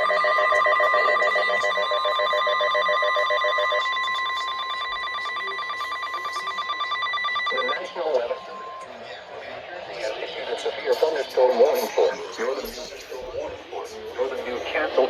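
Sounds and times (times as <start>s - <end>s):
rapidly pulsing tone: 0.0s - 15.0s
steady alarm tone: 0.0s - 15.0s.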